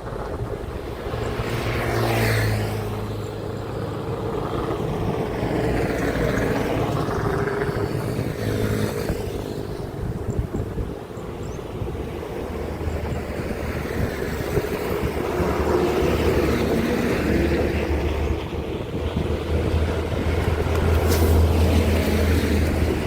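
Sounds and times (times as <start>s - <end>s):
heavy trucks passing: 0.0s - 23.0s
steady traffic noise: 0.0s - 23.0s.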